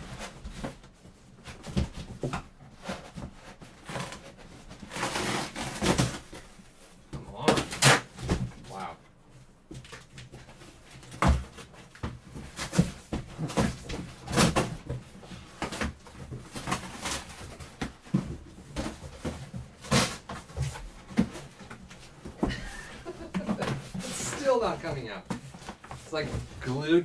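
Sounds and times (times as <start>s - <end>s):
cardboard scraping and thumping: 0.0s - 8.7s, 9.7s - 27.0s.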